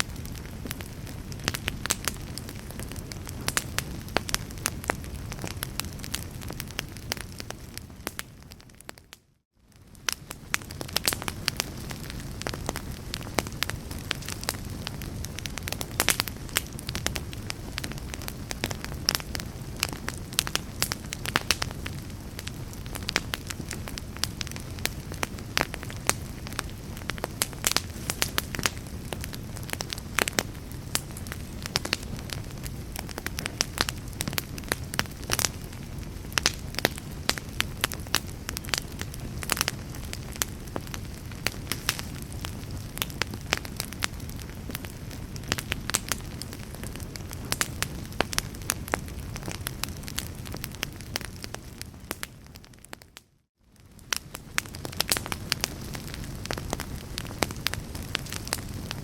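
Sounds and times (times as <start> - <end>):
fire crackling and popping: 0.0 - 59.0
fire rumbling: 0.0 - 59.0.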